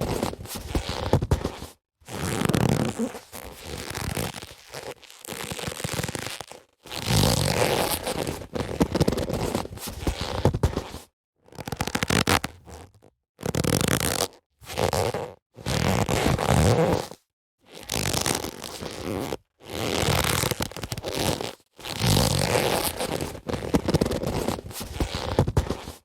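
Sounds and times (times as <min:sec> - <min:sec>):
leather gloves rubbing and creaking: 0:00.0 - 0:26.0.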